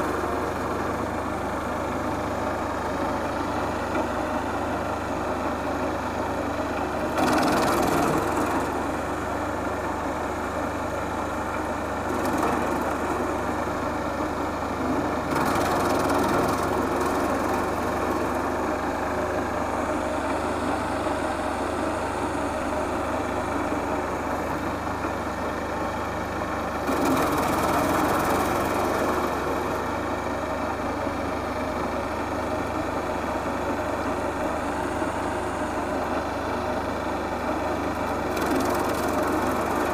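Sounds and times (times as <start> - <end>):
wood chipper chipping branches: 0.0 - 25.4, 26.7 - 30.1, 34.8 - 39.9.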